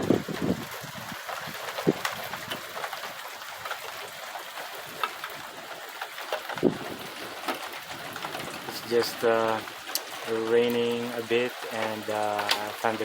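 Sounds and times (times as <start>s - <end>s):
light rain hissing: 0.0s - 13.0s
running rainwater: 0.0s - 13.0s
water drips: 0.9s - 13.0s.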